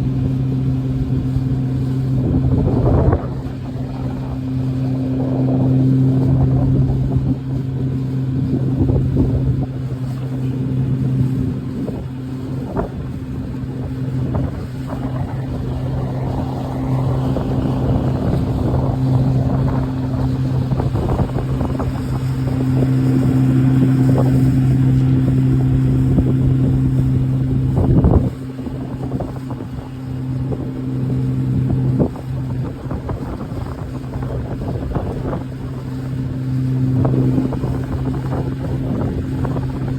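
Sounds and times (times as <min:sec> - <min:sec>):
boat engine running: 0:00.0 - 0:39.9
wind buffeting microphone: 0:00.0 - 0:39.9.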